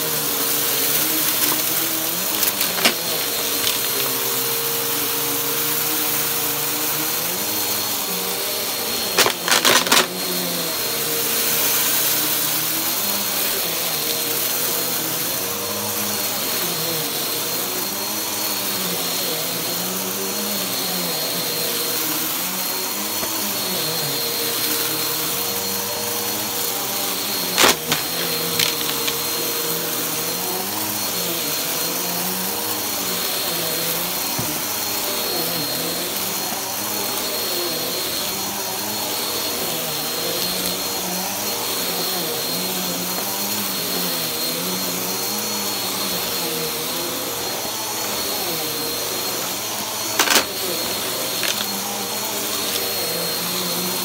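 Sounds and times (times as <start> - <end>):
vacuum cleaner on carpet: 0.0 - 54.0.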